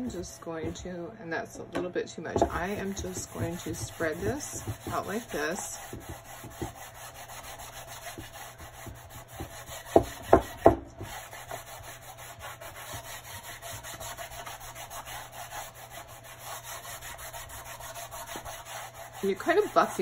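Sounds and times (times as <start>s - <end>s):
cloth scrubbing wax into wood: 2.4s - 20.0s.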